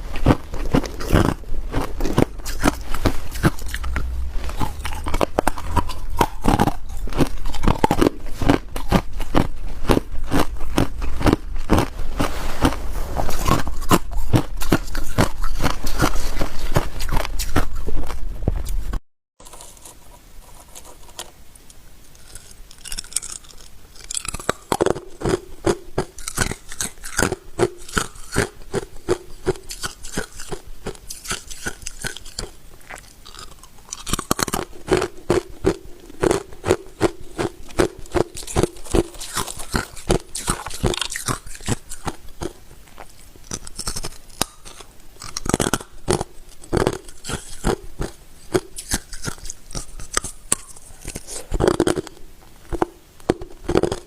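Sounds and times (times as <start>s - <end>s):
person chewing ice: 0.0s - 18.2s, 22.1s - 54.0s.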